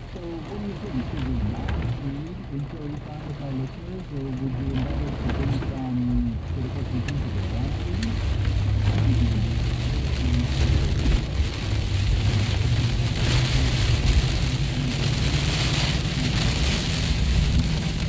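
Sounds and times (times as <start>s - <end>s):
car and tyres rumbling on wet road: 0.0s - 18.0s
heavy rain on car roof: 0.0s - 18.0s.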